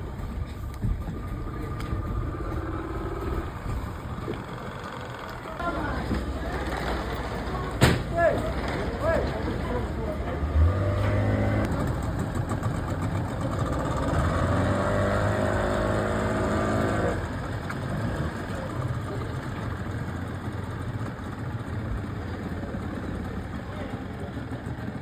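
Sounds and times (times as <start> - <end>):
speedboat engine running: 0.0 - 25.0.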